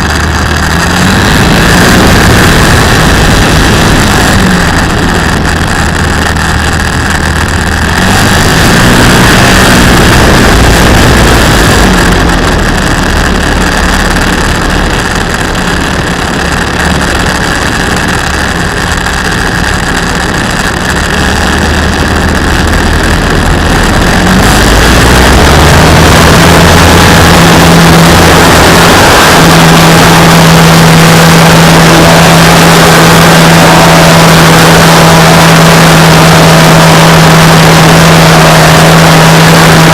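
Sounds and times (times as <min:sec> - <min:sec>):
model airplane motor and propeller: 0:00.0 - 0:39.9.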